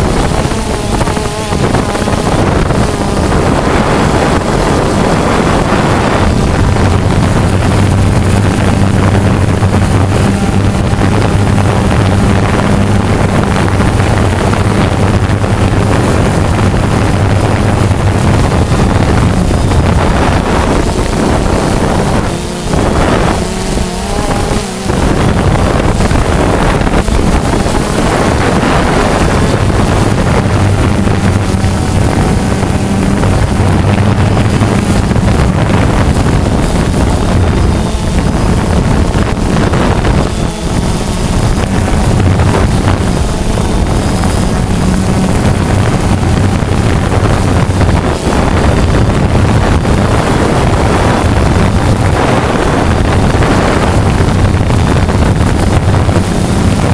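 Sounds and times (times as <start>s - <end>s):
quadcopter propellers droning: 0.0s - 56.9s
wind buffeting microphone: 0.0s - 56.9s.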